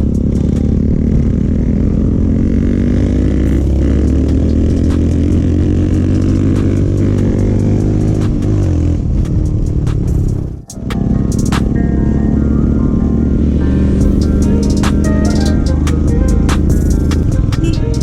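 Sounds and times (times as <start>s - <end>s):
motorcycle engine exhaust: 0.0s - 12.2s, 14.0s - 18.0s.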